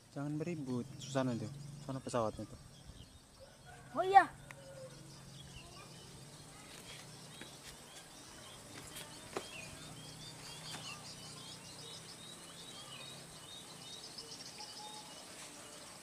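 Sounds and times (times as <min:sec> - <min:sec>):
birds chirping: 0:00.0 - 0:16.0
low outdoor background noise: 0:00.0 - 0:16.0.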